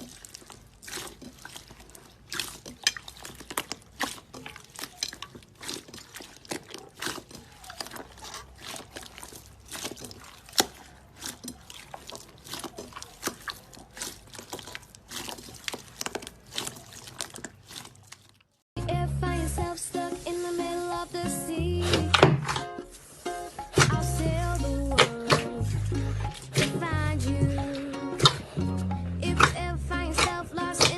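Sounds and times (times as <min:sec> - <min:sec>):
slime squelching by hand: 0:00.0 - 0:18.7, 0:20.9 - 0:30.9.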